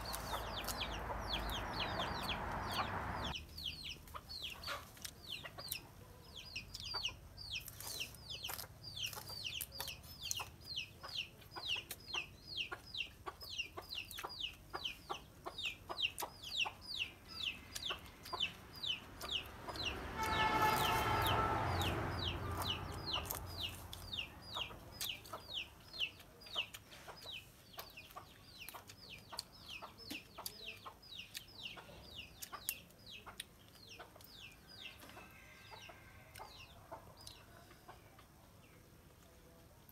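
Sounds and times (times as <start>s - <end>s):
chickens peeping: 0.0s - 39.5s.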